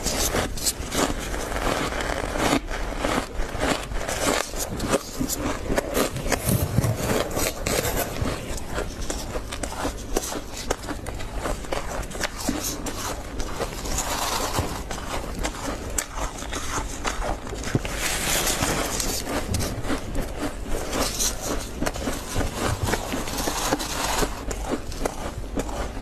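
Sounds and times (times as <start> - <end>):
crunching of chewed frost: 0.0 - 26.0
plastic scoop scooping frost: 0.0 - 26.0.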